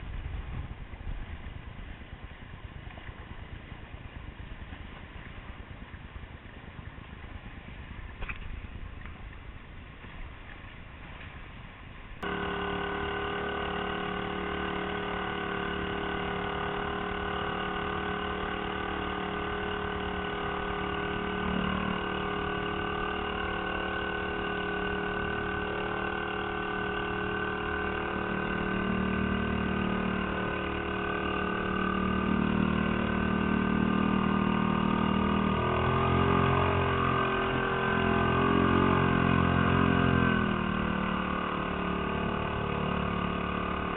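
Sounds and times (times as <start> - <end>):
outboard motor running: 0.0 - 43.9.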